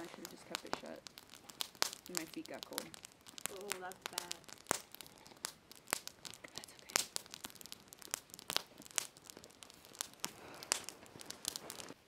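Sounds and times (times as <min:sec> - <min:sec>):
crinkly material rustling and crackling: 0:00.0 - 0:12.0.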